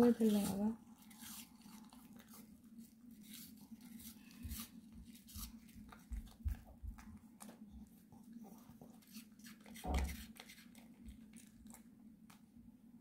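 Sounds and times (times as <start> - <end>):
dog chewing crunchy vegetables: 0.0 - 11.9.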